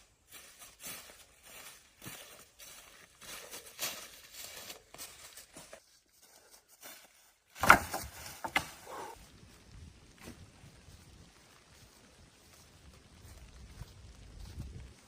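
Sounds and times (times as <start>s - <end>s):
rustling branches and forest litter: 0.0s - 15.0s.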